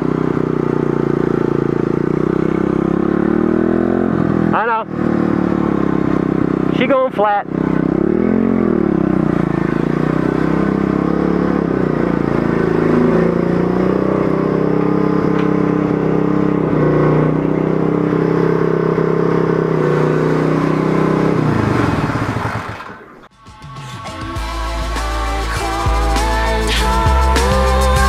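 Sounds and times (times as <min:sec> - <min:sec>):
motorbike engine running: 0:00.0 - 0:23.2.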